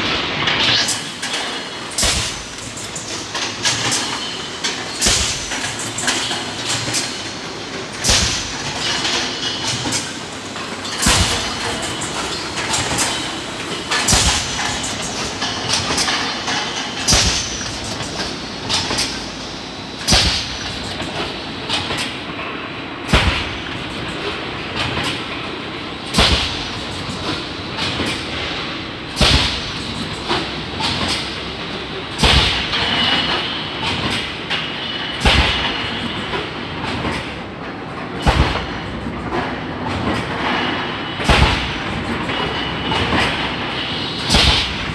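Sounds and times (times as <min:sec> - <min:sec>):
loud sharp machine clack: 0:00.0 - 0:22.3, 0:23.0 - 0:44.9.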